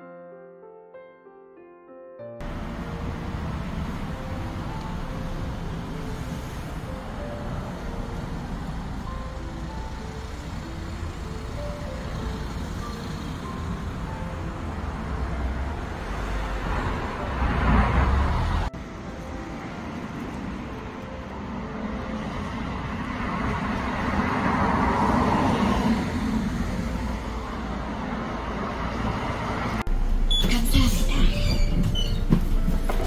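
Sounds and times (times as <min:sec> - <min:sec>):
cars passing: 0:02.4 - 0:33.0.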